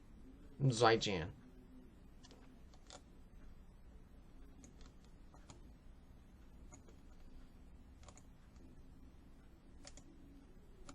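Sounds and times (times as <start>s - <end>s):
low room hum: 0.0s - 10.9s.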